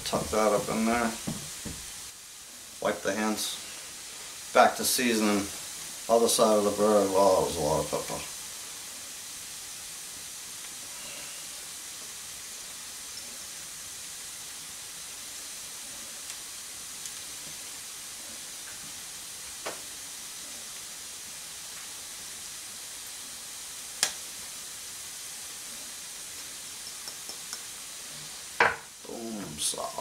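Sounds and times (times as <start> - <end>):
fire crackles: 0.0 - 30.0
wood fire hissing: 0.0 - 30.0.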